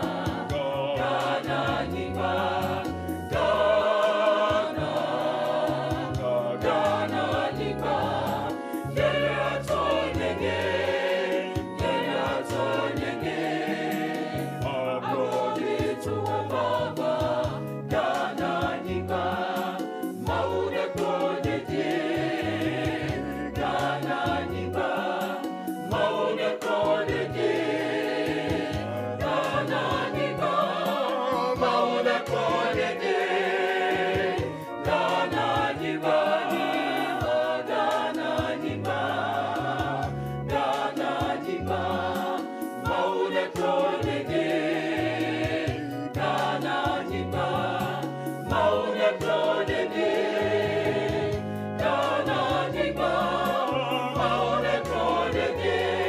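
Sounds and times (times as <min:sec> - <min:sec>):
choral singing: 0:00.0 - 0:56.0.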